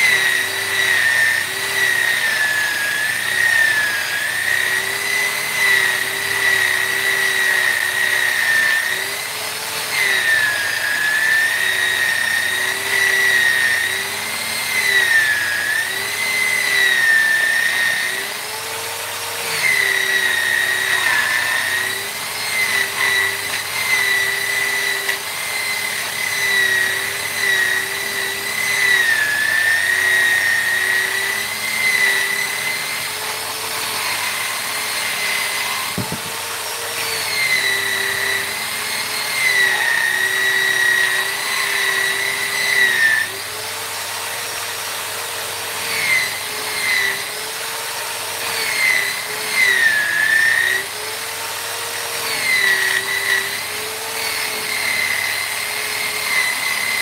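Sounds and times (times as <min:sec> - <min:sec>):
rotary tool whining against wood: 0:00.0 - 0:57.0.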